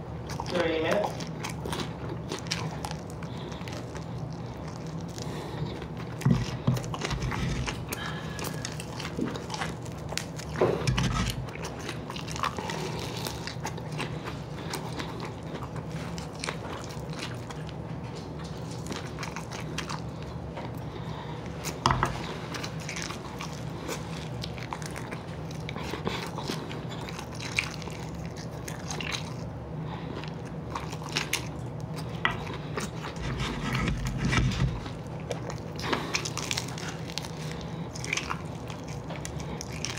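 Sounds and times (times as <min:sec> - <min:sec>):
biting and chewing crispy chicken: 0:00.0 - 0:39.9
steady low hum: 0:00.0 - 0:39.9.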